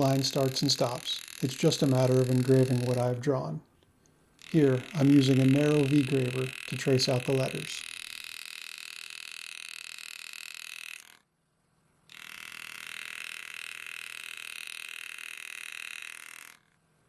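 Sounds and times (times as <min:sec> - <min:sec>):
engraving tool buzzing: 0:00.0 - 0:03.6, 0:04.4 - 0:11.4, 0:12.1 - 0:17.0.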